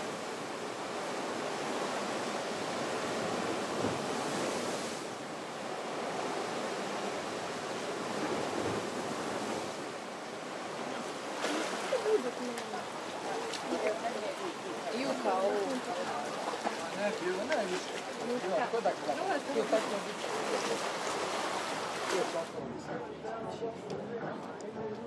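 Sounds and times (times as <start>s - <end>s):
small waves washing in: 0.0s - 22.6s.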